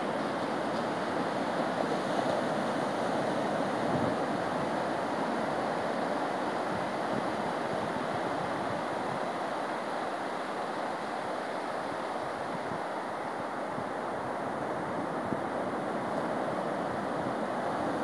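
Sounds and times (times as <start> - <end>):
waves breaking on sand: 0.0 - 18.0.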